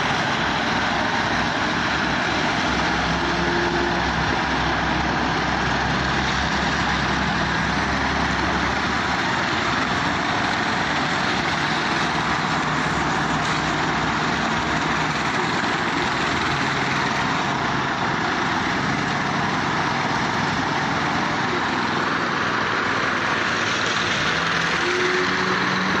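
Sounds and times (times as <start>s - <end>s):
concrete mixer engine: 0.0s - 26.0s
power trowel running: 0.0s - 26.0s.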